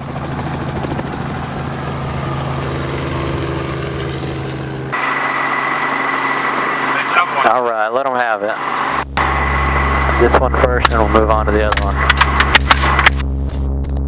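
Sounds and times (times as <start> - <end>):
helicopter engine and rotor: 0.0 - 13.2
steady high whine: 0.0 - 13.5.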